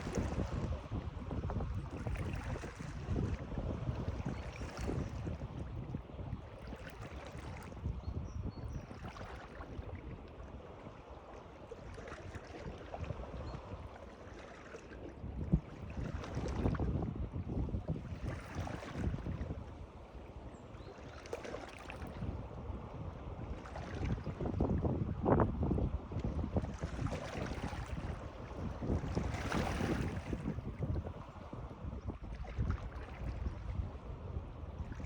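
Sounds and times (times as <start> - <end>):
water lapping: 0.0 - 35.0
wind rumble on microphone: 0.0 - 35.0.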